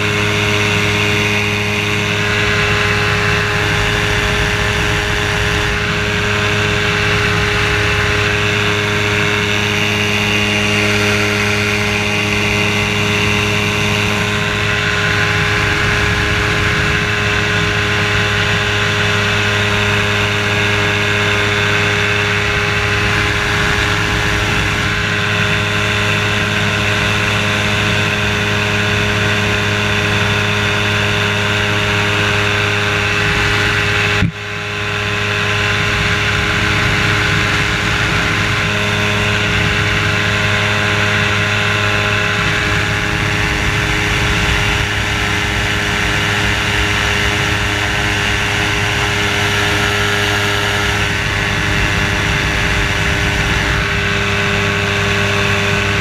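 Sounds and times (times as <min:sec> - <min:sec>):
engine and propeller drone: 0:00.0 - 0:56.0.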